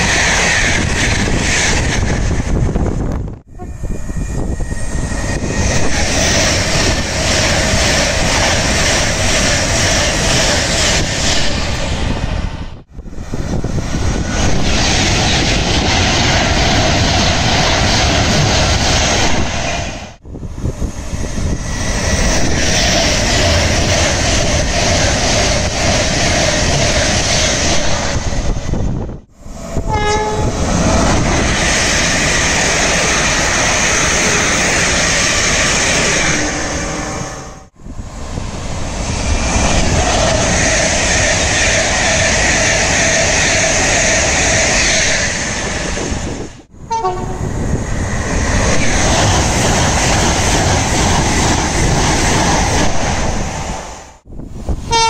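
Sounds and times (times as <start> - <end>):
trains rushing past: 0.0 - 55.0.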